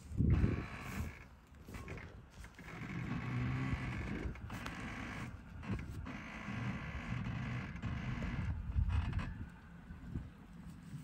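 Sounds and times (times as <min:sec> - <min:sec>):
car engine at low revs: 0:00.0 - 0:11.0
uneven low creaking: 0:00.2 - 0:09.5.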